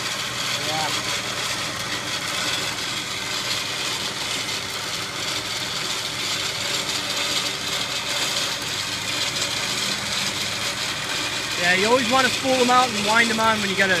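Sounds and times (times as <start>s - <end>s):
winch motor reeling cable: 0.0s - 14.0s.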